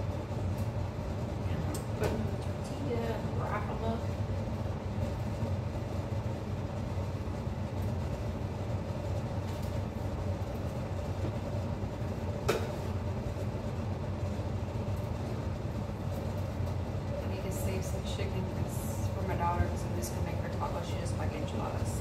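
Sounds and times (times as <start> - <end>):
range hood fan humming: 0.0 - 22.0.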